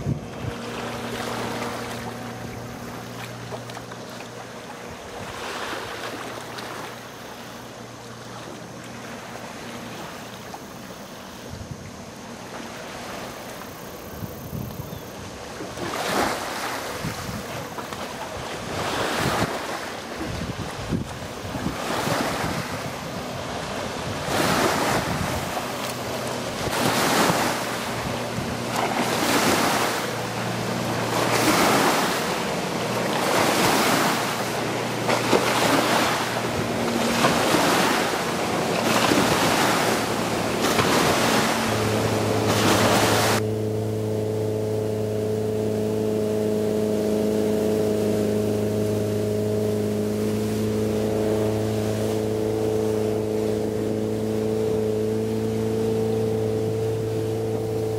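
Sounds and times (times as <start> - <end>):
wind on microphone: 0.0 - 3.6, 11.4 - 12.1, 14.0 - 57.9
motorboat engine hum: 0.0 - 57.9
water washing in surges: 0.0 - 57.9.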